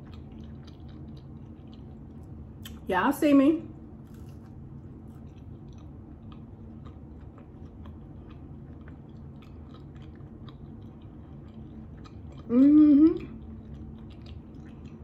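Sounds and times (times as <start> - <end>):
person chewing food: 0.0 - 2.8, 4.0 - 15.0
low background hum: 0.0 - 15.0.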